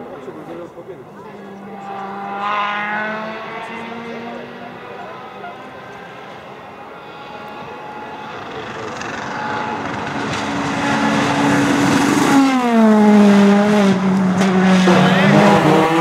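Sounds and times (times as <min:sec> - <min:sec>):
rally car engine passing: 0:00.0 - 0:16.0.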